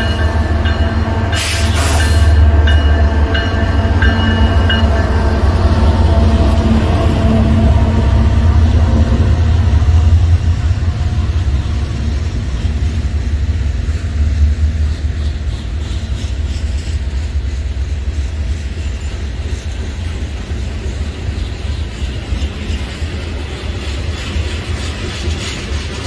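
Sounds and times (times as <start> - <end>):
diesel locomotive engine droning: 0.0 - 26.0
freight cars rumbling on rails: 0.0 - 26.0.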